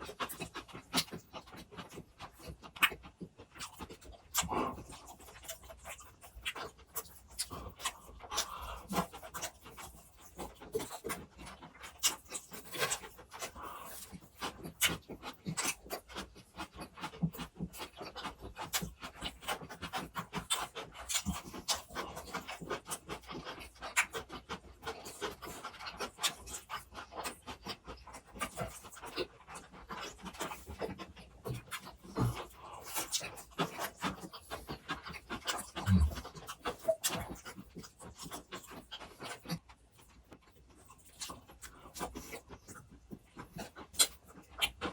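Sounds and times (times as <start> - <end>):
chewing and wet mouth sounds: 0.0 - 44.9.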